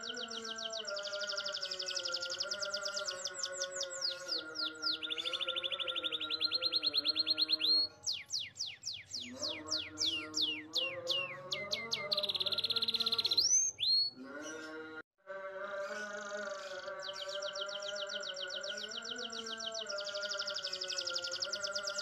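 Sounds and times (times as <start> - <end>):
canary singing: 0.0 - 15.0, 15.7 - 22.0.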